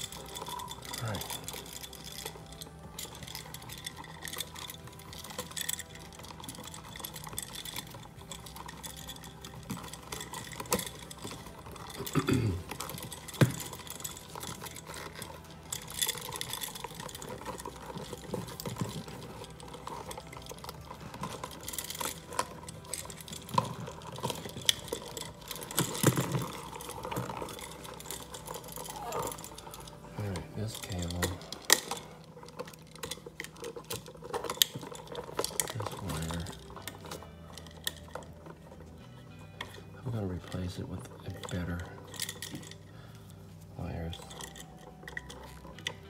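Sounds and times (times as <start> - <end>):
cable handling clicks and rustles: 0.0 - 46.0.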